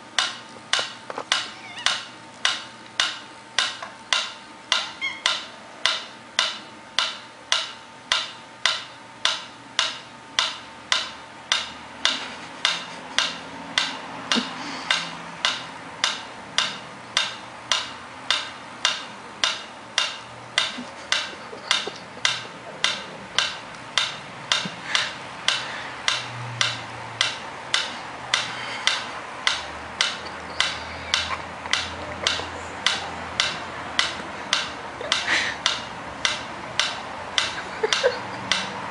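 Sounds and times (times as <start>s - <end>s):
metronome ticking: 0.0s - 38.9s.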